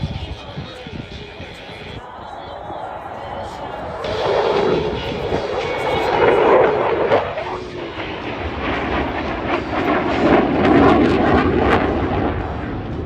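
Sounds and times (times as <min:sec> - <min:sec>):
jet engine roar with crackle: 0:00.0 - 0:13.0.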